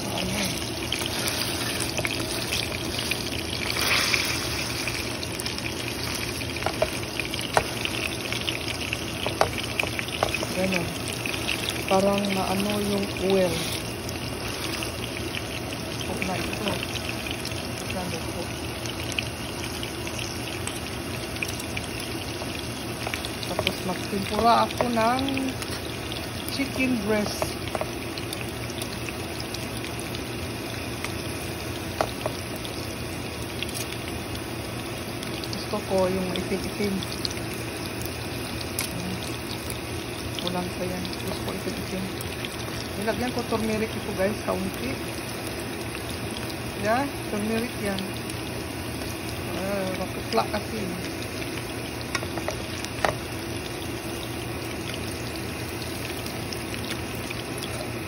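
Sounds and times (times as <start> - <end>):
patties sizzling in oil: 0.0 - 58.0.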